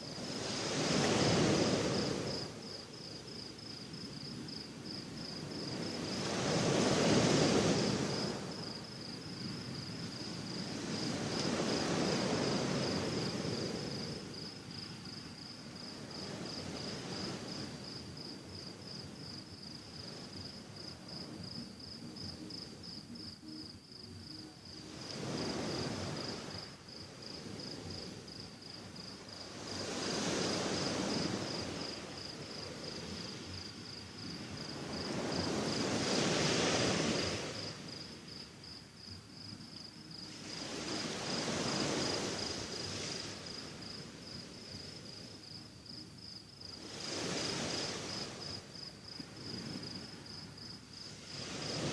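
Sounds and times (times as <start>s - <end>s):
sea waves washing onto shore: 0.0s - 23.1s, 24.6s - 51.9s
cricket chirping: 0.0s - 51.9s.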